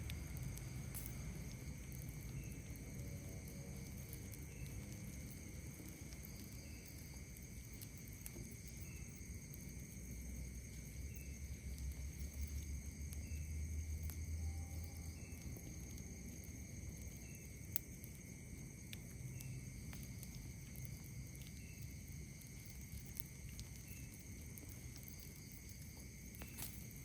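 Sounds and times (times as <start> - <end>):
campfire crackling and popping: 0.0 - 27.0
insects trilling: 0.0 - 27.0.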